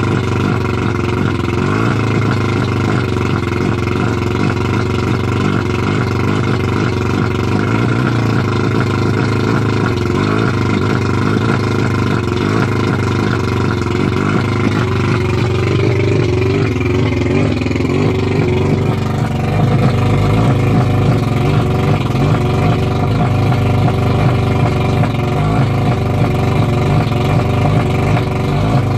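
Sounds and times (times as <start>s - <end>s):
outboard motor idling: 0.0s - 28.9s.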